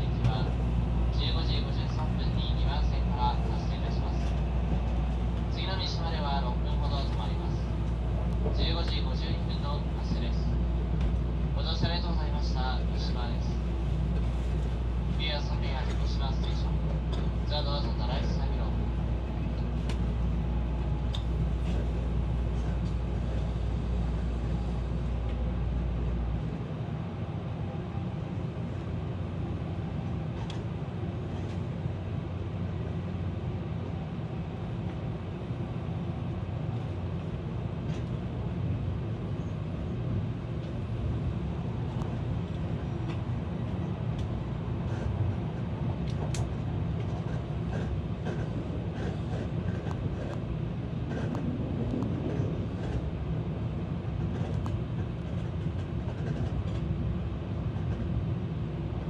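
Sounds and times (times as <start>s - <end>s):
train rumble and rush: 0.0s - 59.0s.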